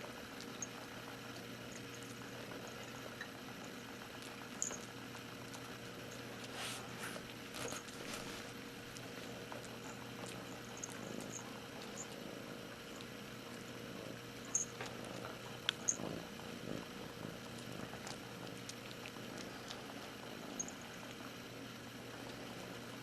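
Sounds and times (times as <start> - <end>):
small animal purring: 0.0 - 23.0.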